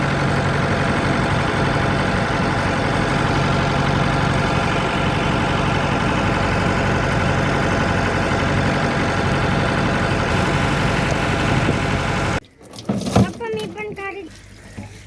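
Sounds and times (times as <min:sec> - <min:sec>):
boat engine droning: 0:00.0 - 0:12.4.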